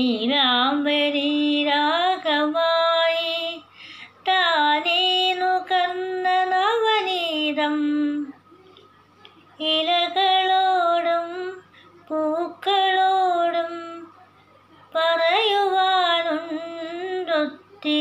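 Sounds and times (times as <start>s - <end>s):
woman singing unaccompanied: 0.0s - 8.5s, 9.3s - 18.0s.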